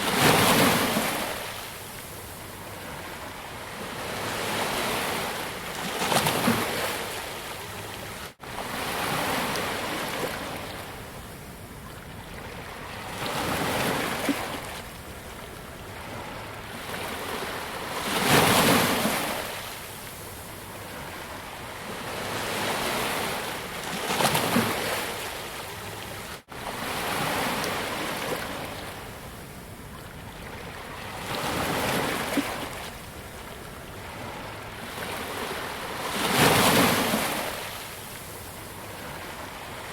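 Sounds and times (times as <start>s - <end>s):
sea waves breaking on beach: 0.0s - 11.2s, 15.9s - 29.6s, 30.4s - 39.9s.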